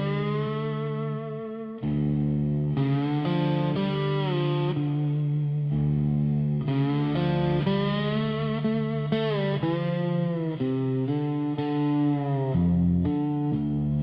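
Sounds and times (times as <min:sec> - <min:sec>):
distorted electric guitar: 0:00.0 - 0:14.0
low bass line: 0:00.0 - 0:14.0.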